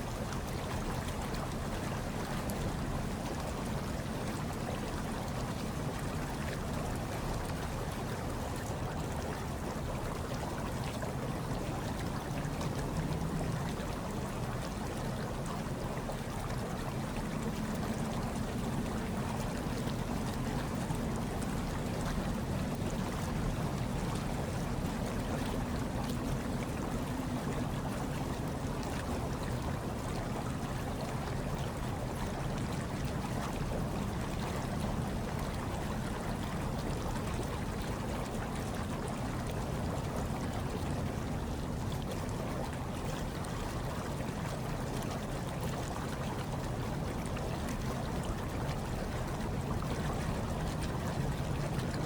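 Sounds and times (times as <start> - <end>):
hot tub water churning: 0.0 - 52.0.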